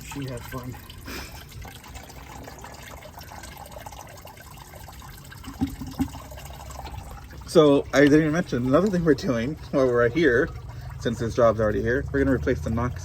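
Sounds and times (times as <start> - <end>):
coolant draining in steady stream: 0.0 - 13.0.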